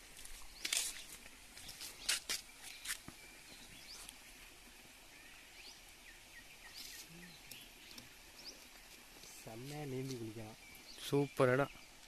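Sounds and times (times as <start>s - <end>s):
faint bird chirps: 0.5s - 12.0s.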